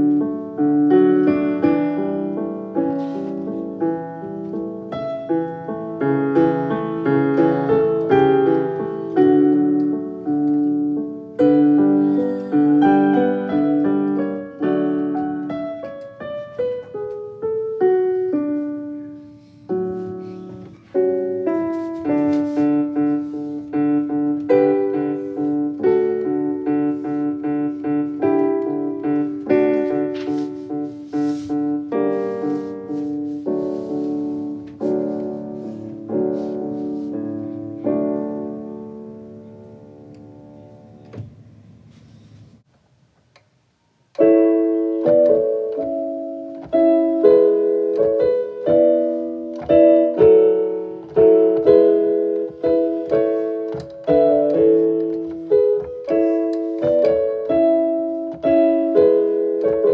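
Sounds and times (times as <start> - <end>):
solo piano music: 0.0 - 42.7, 43.6 - 59.9.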